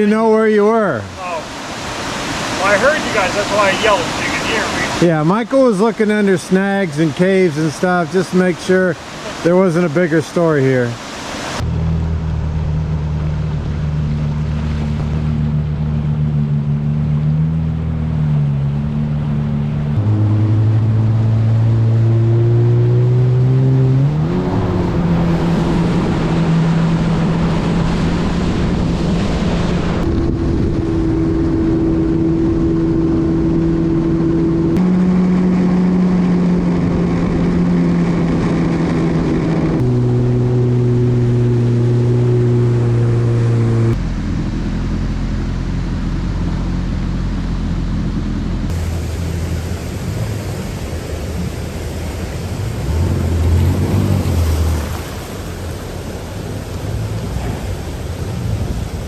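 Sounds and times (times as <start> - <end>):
jet ski engines running: 0.0 - 59.0
rush of water and wind: 0.0 - 59.0.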